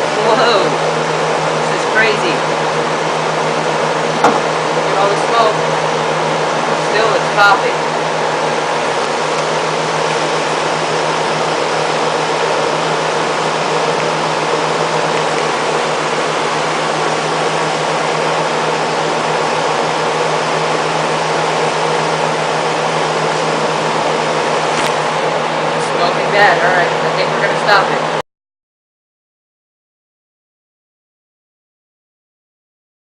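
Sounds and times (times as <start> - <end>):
microwave oven humming: 0.0 - 28.2.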